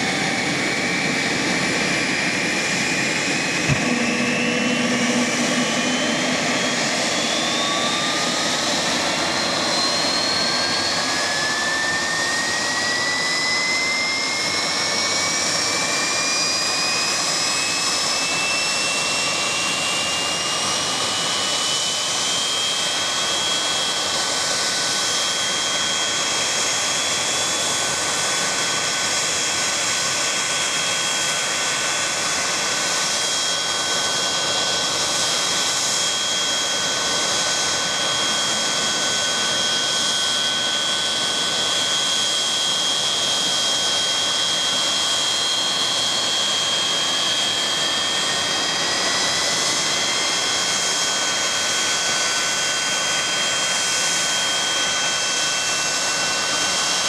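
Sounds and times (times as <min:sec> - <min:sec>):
jet engine spooling up: 0:00.0 - 0:57.0
jet engine whine: 0:00.0 - 0:57.0.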